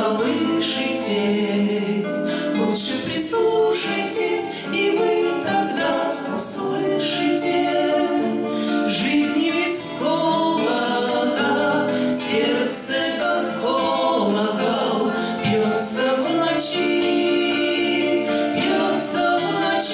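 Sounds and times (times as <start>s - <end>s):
strummed acoustic guitars: 0.0s - 19.9s
women singing together: 0.0s - 19.9s.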